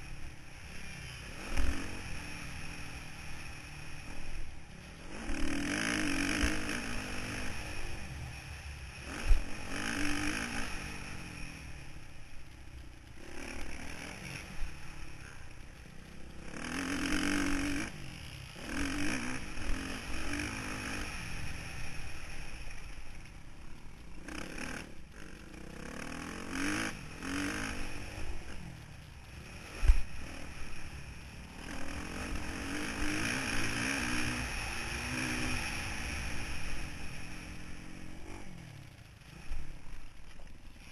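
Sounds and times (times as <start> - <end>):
clatter: 0.0 - 40.9
motocross bike engine revving: 0.0 - 40.9.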